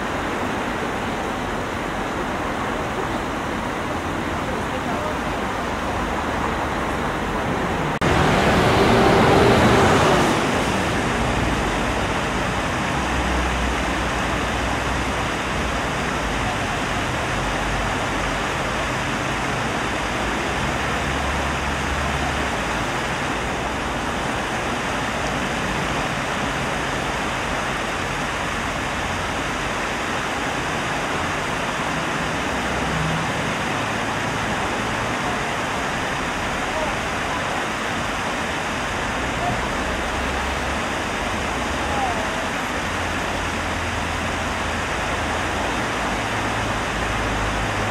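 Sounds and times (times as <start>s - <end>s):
fountain splashing: 0.0s - 47.9s
low traffic rumble: 0.0s - 47.9s
passing traffic: 0.0s - 47.9s.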